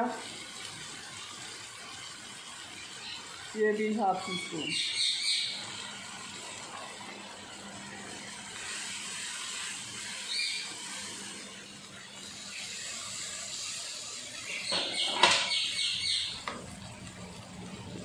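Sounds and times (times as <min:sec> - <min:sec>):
vegetables sizzling in oil: 0:00.0 - 0:18.0
wooden spoon stirring in pan: 0:00.0 - 0:18.0.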